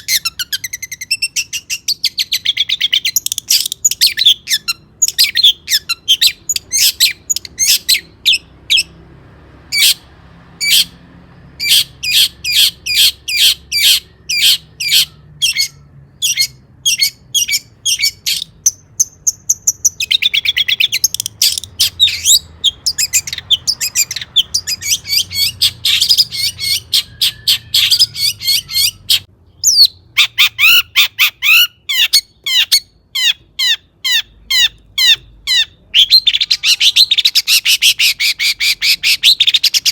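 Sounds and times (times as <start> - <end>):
bird singing sharp chirps and trills: 0.0 - 9.1, 9.7 - 39.9.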